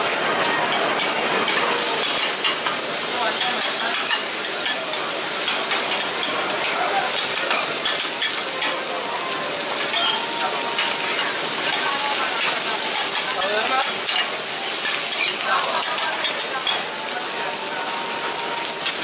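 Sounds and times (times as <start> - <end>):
omelettes sizzling on a griddle: 0.0 - 19.0.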